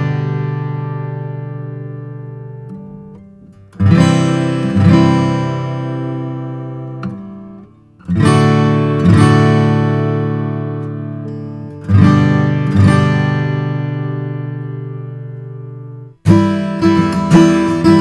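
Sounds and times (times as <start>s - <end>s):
acoustic guitar strummed: 0.0s - 18.0s.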